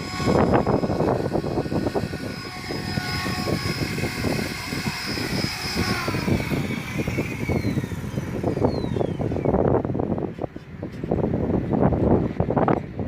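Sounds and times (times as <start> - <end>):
model airplane engine buzzing: 0.0 - 13.0
wind rumble on microphone: 0.0 - 13.0.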